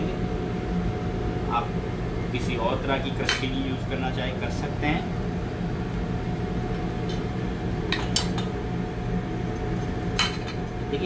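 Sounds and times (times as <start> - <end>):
faint constant whine: 0.0 - 11.0
kitchen hum: 0.0 - 11.0.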